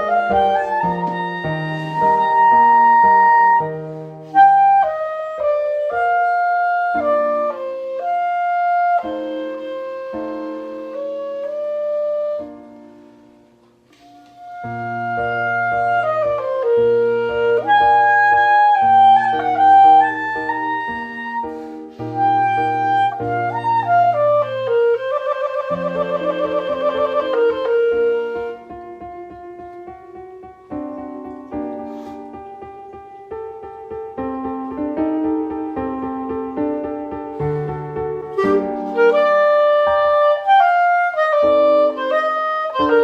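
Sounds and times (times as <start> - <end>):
lower accompaniment: 0.0 - 43.0
solo clarinet melody: 0.0 - 43.0.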